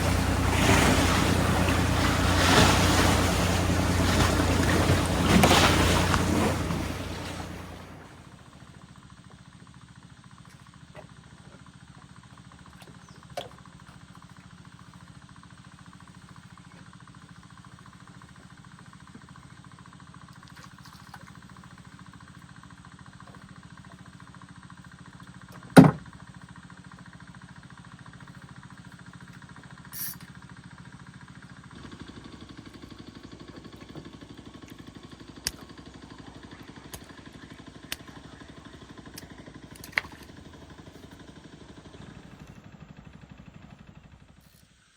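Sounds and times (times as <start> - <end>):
small engine idling: 0.0 - 44.9.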